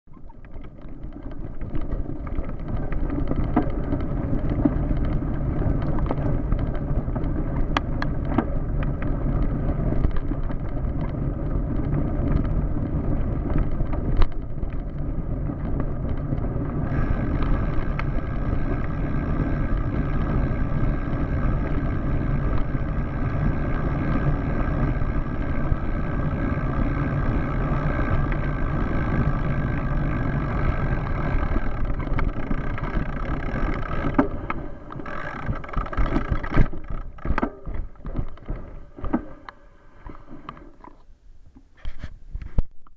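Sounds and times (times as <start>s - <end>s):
bicycle tyres rolling over gravel: 0.1s - 42.6s
steady hum: 0.2s - 42.9s.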